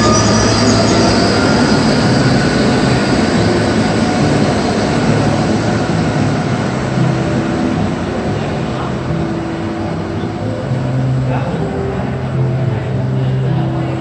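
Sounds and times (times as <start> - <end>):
tram running past: 0.0 - 14.0.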